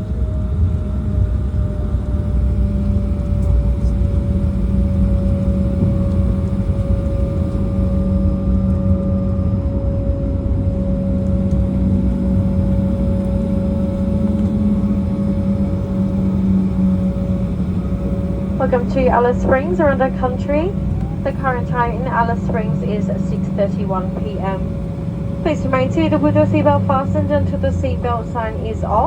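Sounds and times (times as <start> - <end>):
airliner cabin rumble: 0.0 - 29.0
jet engines humming: 0.0 - 29.0.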